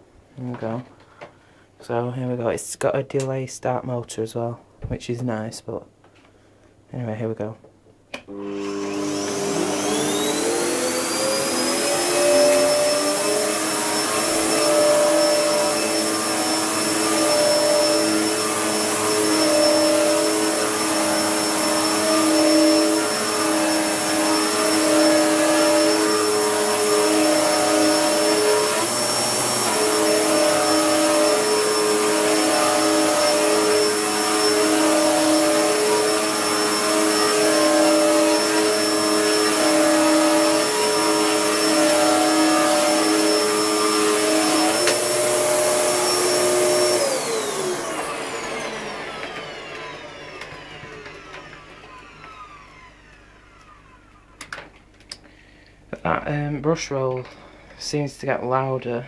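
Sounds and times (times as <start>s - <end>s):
vacuum cleaner running: 8.2s - 55.6s.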